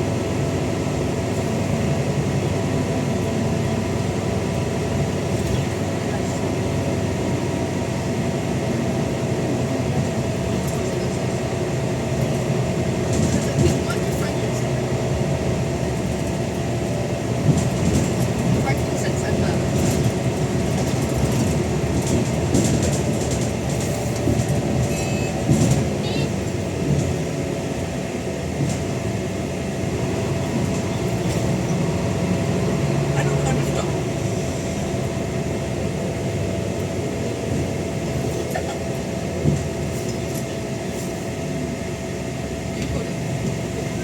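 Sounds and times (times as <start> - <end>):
bus diesel engine running: 0.0 - 44.0.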